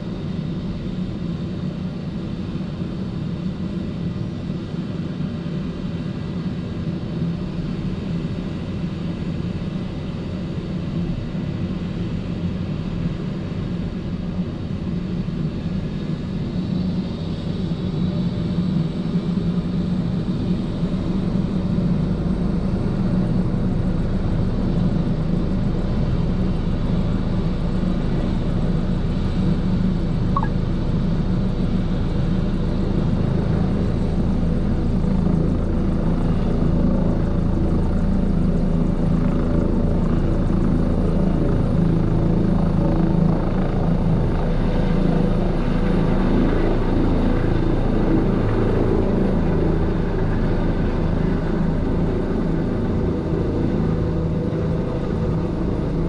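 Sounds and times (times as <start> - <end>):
faint high turbine whine: 0.0 - 56.0
helicopter rotor and turbine rumble: 0.0 - 56.0.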